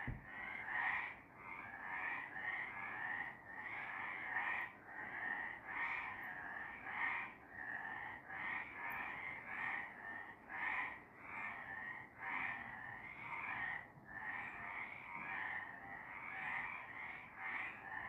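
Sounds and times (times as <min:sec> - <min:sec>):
frogs croaking in chorus: 0:00.0 - 0:18.0.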